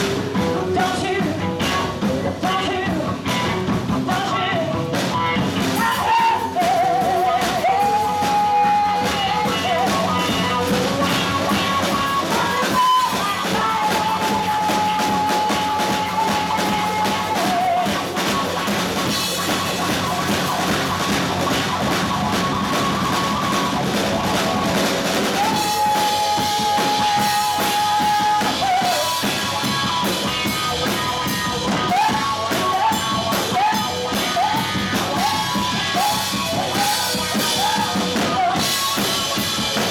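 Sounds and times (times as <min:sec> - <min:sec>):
bass guitar: 0:00.0 - 0:39.9
drum kit: 0:00.0 - 0:39.9
electric guitar: 0:00.0 - 0:39.9
woman singing: 0:00.3 - 0:18.7, 0:25.2 - 0:39.9.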